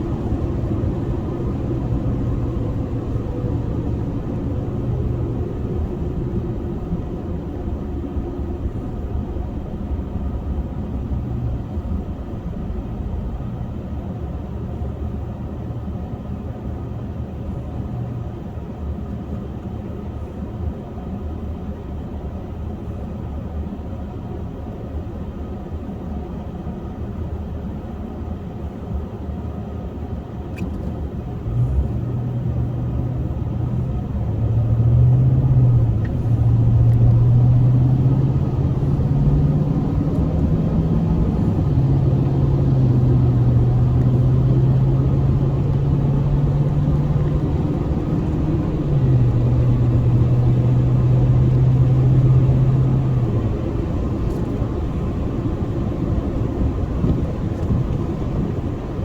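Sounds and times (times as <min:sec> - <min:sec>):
motor vehicle rumble and hum: 0:00.0 - 0:59.0.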